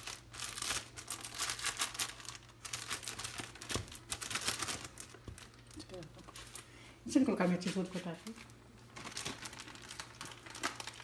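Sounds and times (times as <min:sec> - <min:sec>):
plastic bag crinkling: 0:00.0 - 0:06.7, 0:07.4 - 0:11.0.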